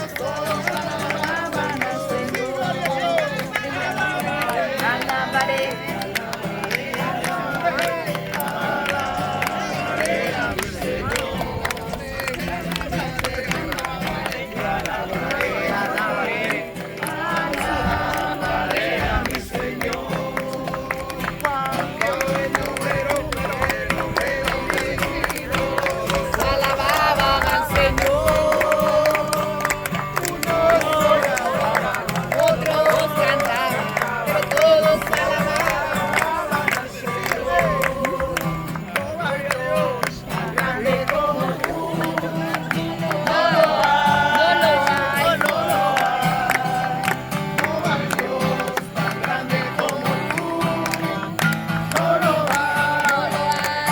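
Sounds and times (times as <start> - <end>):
group singing worship song: 0.0 - 53.9
strummed acoustic guitar: 0.0 - 53.9.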